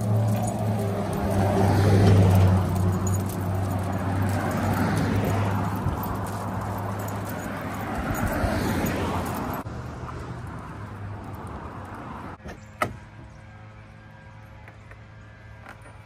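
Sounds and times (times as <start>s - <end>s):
outdoor background noise: 0.0s - 16.0s
passing car traffic: 0.0s - 16.0s.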